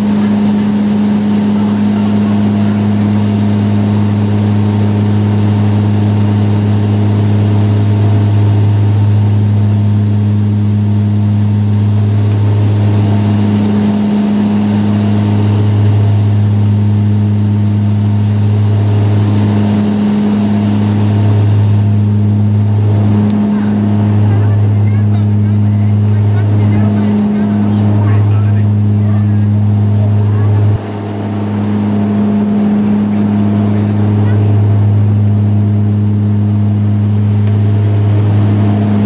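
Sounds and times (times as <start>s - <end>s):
turboprop cabin drone: 0.0s - 39.0s.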